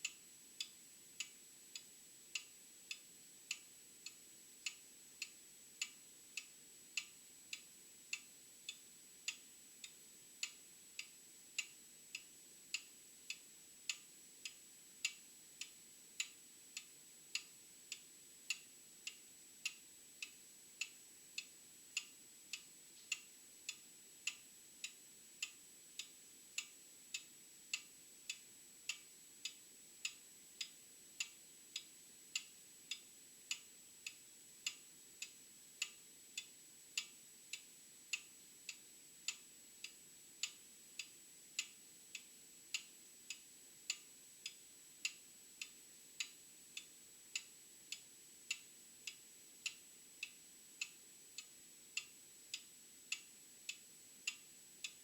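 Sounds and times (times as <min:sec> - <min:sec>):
mechanical clock ticking: 0:00.0 - 0:55.0.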